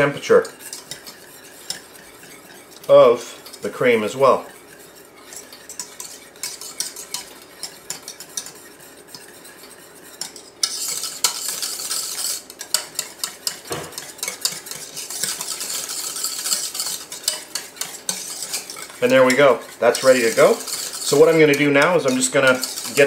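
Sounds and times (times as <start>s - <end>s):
whisk clicking against metal pan: 0.0s - 23.0s.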